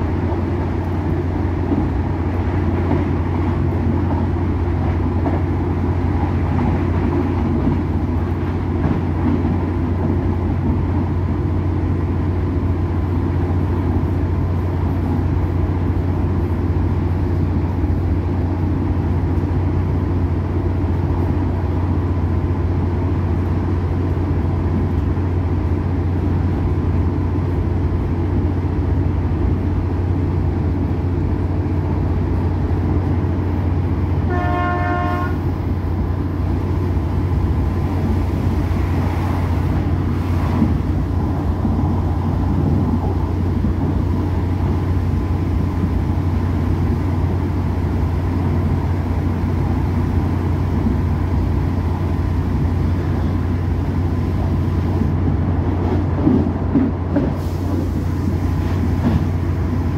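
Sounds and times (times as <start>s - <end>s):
train interior drone and rumble: 0.0s - 59.9s.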